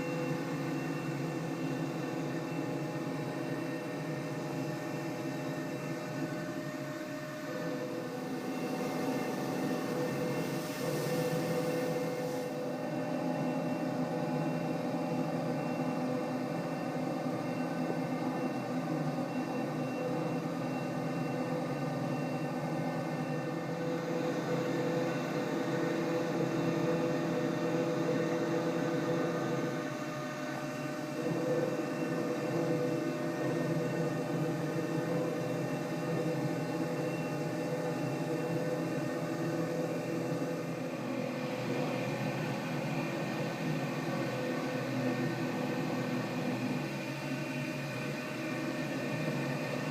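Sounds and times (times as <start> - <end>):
machining centre whirring hum: 0.0 - 49.9.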